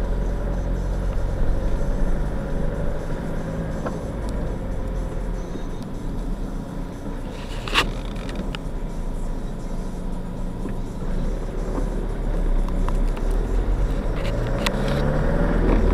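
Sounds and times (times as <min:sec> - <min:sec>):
car engine and road noise: 0:00.0 - 0:15.9.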